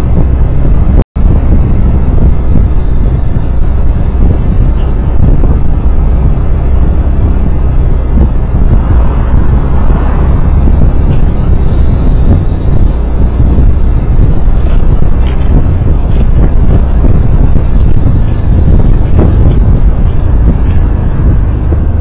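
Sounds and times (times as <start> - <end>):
road and engine noise: 0.0 - 22.0
wind buffeting microphone: 0.0 - 22.0.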